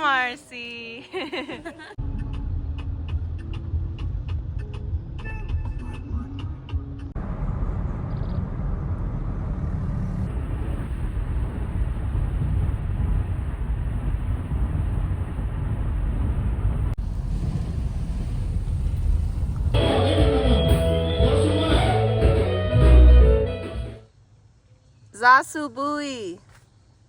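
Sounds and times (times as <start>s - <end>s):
vehicle rumble: 2.0s - 24.0s.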